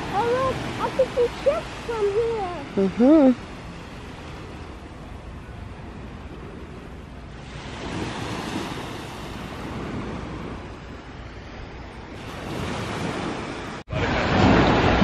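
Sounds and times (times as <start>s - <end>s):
small waves washing onto sand: 0.0s - 15.0s.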